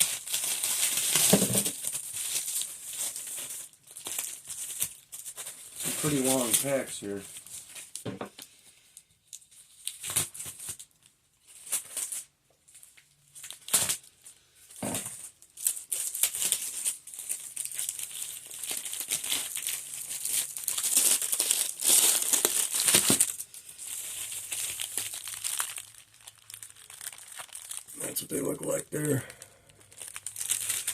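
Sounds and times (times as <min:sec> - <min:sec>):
wrapping crinkling and tearing: 0:00.0 - 0:30.9.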